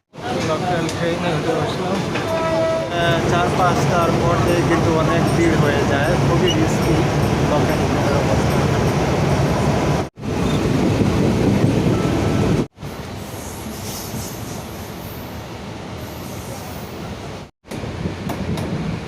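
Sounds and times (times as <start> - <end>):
train carriage rumbling and rattling: 0.0 - 19.0.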